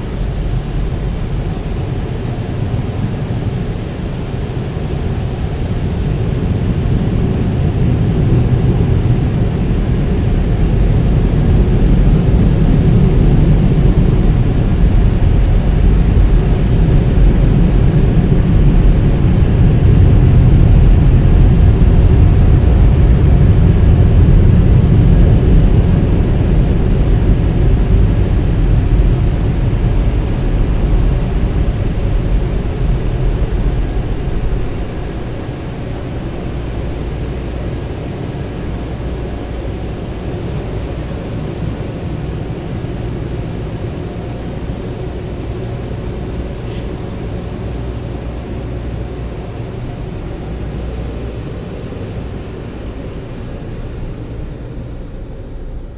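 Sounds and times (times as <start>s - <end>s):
car wash machinery rushing: 0.0s - 55.9s.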